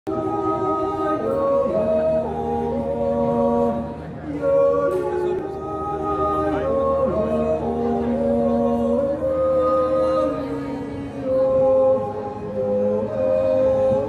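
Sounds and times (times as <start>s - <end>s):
two men yodeling in harmony: 0.1s - 14.0s.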